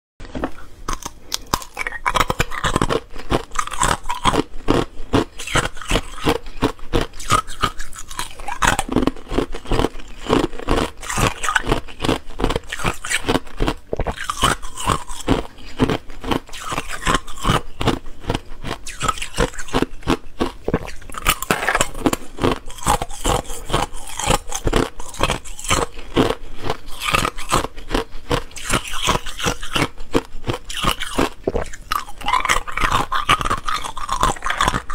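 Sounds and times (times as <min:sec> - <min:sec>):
ice cubes crunching when chewed: 0:00.3 - 0:34.9.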